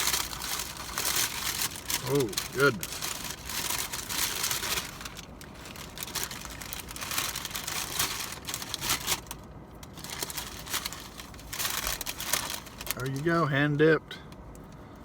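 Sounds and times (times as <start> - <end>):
paper wrapping crinkling: 0.0 - 13.3.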